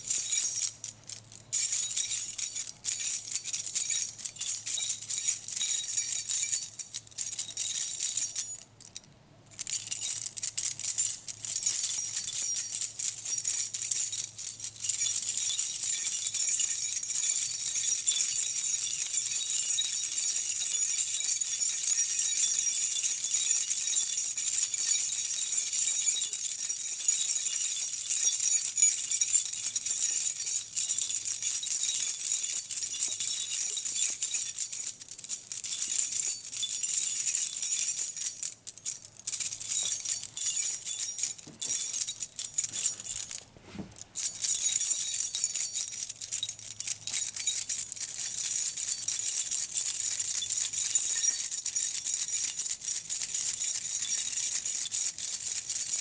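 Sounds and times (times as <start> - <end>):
metal keys jangling: 0.0 - 9.0, 9.6 - 43.5, 44.1 - 56.0.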